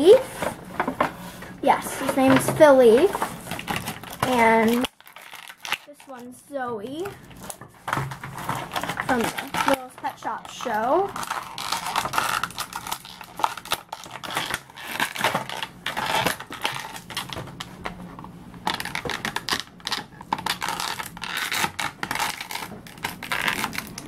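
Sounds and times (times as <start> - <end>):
plastic packaging crinkling: 0.3 - 24.0.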